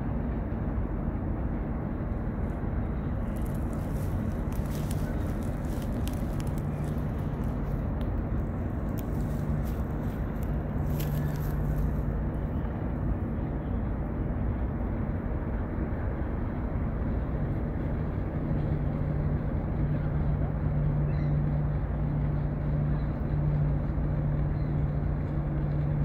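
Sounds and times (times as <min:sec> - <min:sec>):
diesel engines droning: 0:00.0 - 0:26.0.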